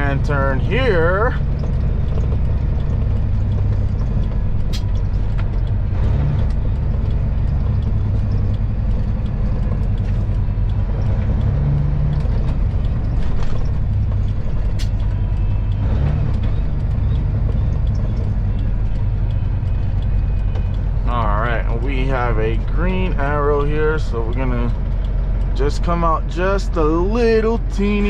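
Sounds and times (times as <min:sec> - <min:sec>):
diesel engine droning: 0:00.0 - 0:28.0
sharp clicks: 0:00.0 - 0:28.0.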